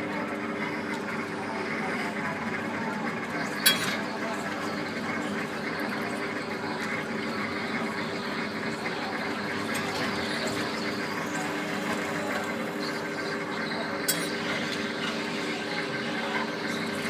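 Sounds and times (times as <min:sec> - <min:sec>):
ride car humming on track: 0:00.0 - 0:17.0.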